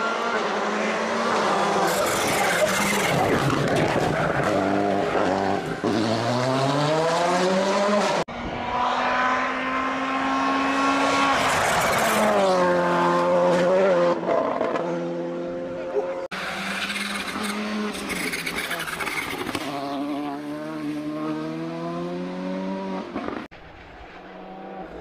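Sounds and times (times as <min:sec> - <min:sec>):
rally car engine driven hard: 0:00.0 - 0:25.0.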